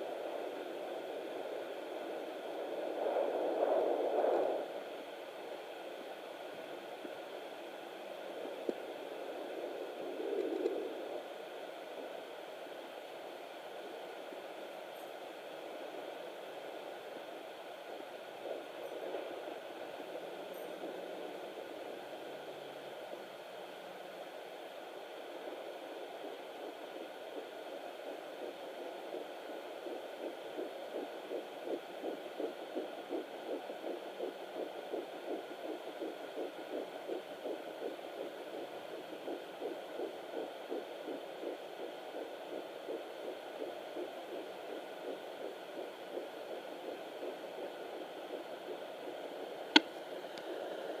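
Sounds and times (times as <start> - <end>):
rapid pulsing heartbeat: 0.0 - 14.6, 15.4 - 51.0
steady hiss: 0.0 - 51.0.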